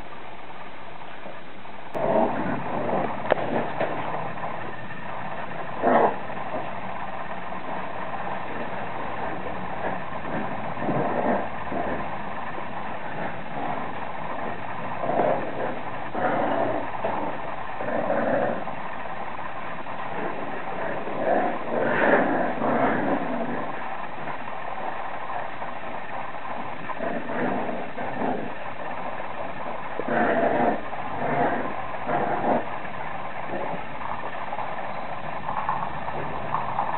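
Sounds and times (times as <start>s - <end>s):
steady background noise: 0.0s - 36.9s.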